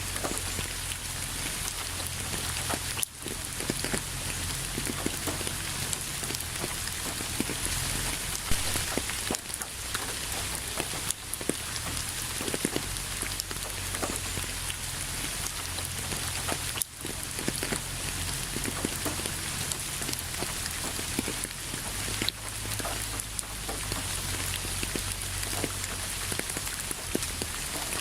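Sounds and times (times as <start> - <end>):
raindrops ticking: 0.0 - 28.0
steady rain falling: 0.0 - 28.0.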